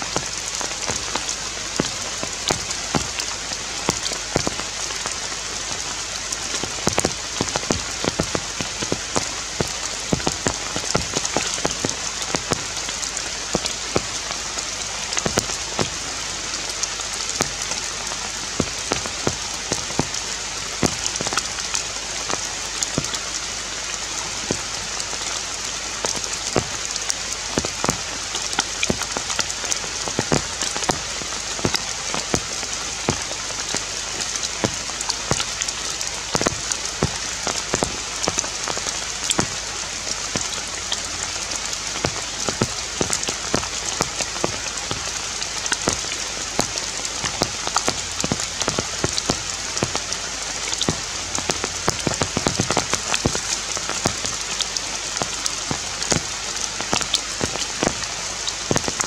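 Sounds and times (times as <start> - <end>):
rain falling on foliage: 0.0 - 59.0
raindrops tapping: 0.0 - 59.0.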